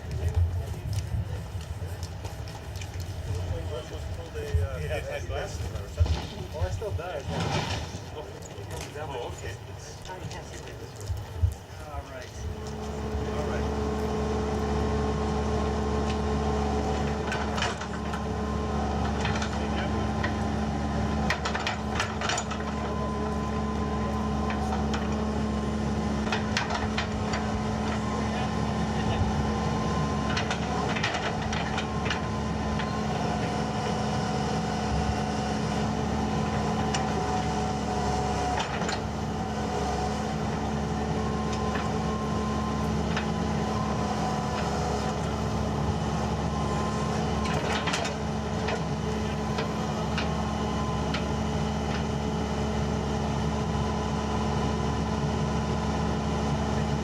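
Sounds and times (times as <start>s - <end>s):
heavy machine engine running: 0.0s - 57.0s.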